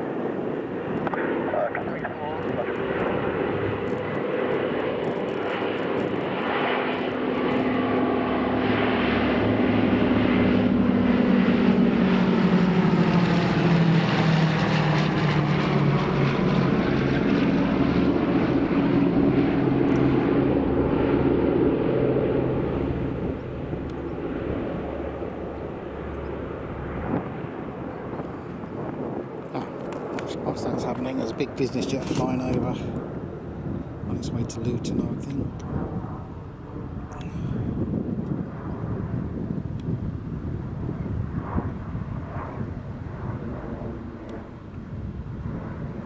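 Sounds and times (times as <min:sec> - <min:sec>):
propeller aircraft engines droning: 0:00.0 - 0:46.0.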